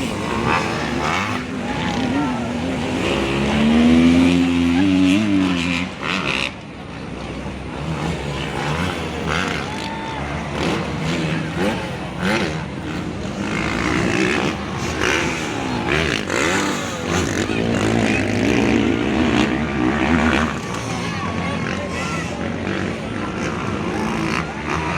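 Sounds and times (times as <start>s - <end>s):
dirt bike engines revving: 0.0s - 24.9s.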